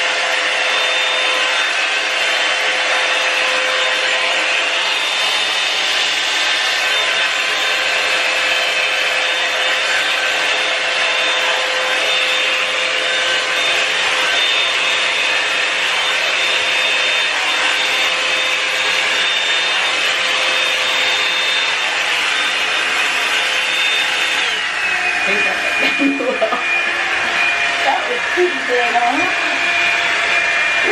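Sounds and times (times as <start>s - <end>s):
hair dryer running: 0.0s - 30.9s.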